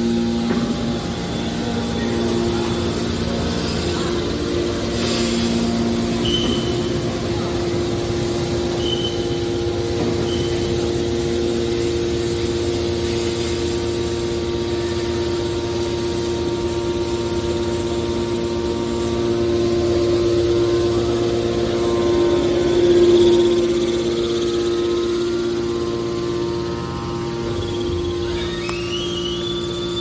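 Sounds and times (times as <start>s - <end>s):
hydraulic power unit humming: 0.0s - 30.0s.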